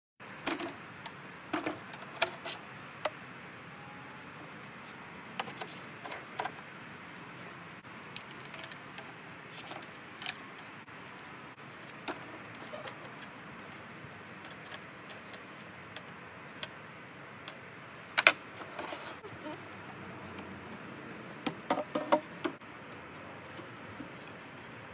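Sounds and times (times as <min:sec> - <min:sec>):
faint outdoor hiss: 0:00.2 - 0:24.9.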